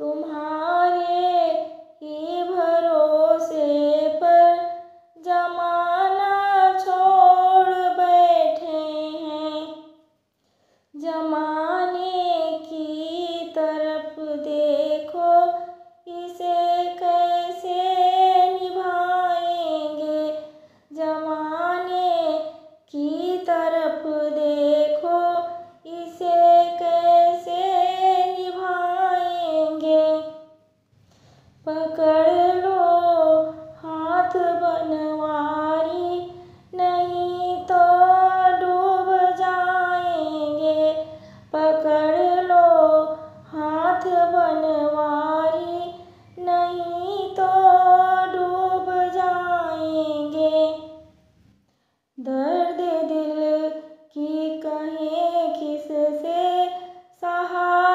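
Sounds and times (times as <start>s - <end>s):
woman singing devotional song: 0.0s - 10.1s, 10.8s - 30.7s, 31.5s - 51.2s, 52.2s - 57.9s.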